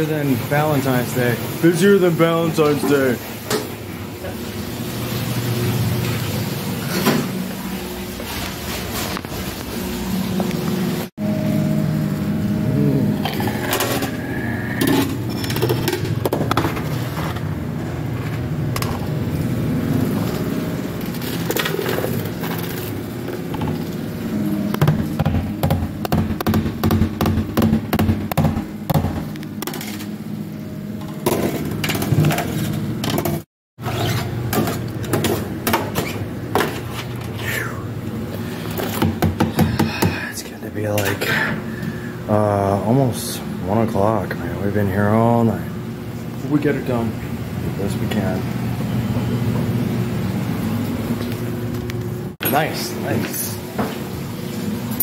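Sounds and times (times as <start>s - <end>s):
steady machine hum: 0.0s - 33.5s, 34.3s - 55.0s.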